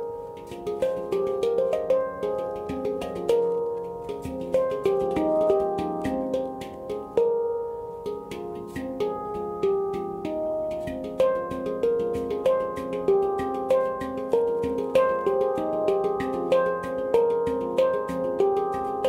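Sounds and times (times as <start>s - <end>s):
handpan played by hand: 0.0s - 19.0s.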